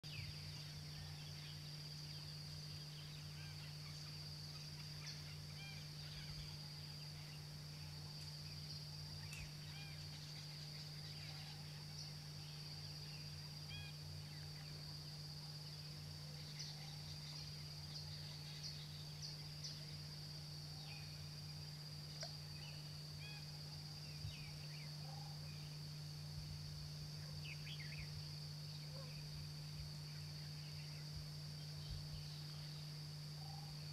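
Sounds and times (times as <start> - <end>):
high insect drone: 0.0 - 33.9
low steady hum: 0.0 - 33.9.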